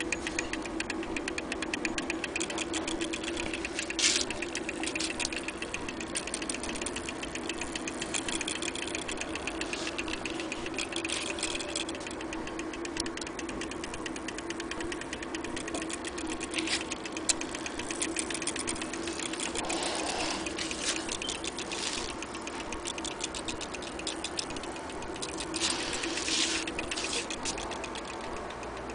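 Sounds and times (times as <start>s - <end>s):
clock gears clattering: 0.0s - 28.9s
steady hum: 0.0s - 28.9s.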